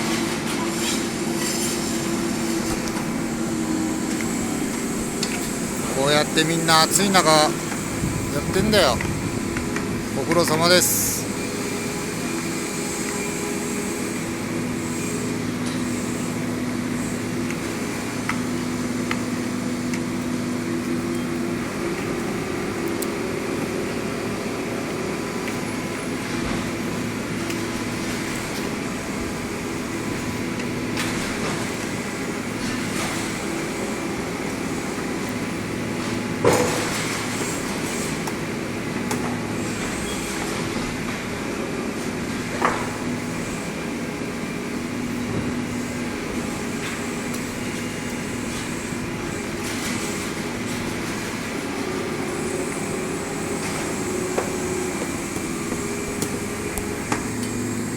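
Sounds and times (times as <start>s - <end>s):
heavy construction machinery running: 0.0s - 57.9s.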